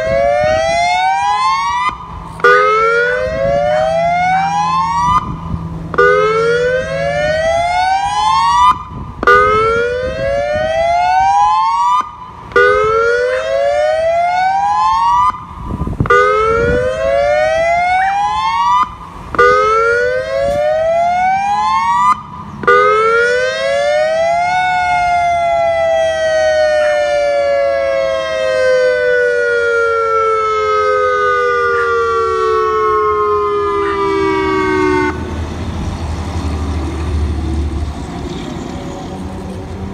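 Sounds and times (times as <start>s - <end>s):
electronic siren whooping: 0.0s - 35.4s.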